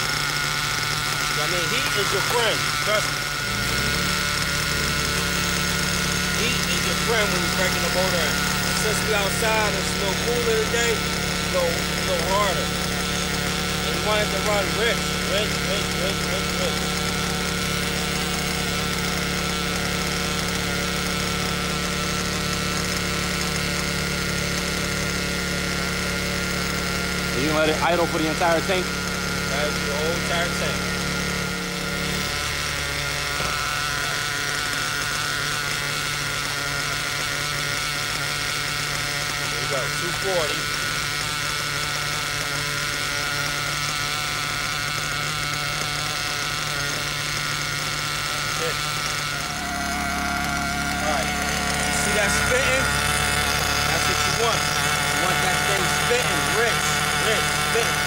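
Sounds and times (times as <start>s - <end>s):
model engine idling: 0.0s - 58.0s.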